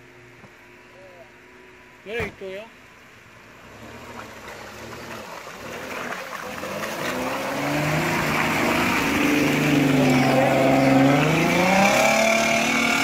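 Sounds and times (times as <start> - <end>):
off-road vehicle engine: 0.0 - 13.0.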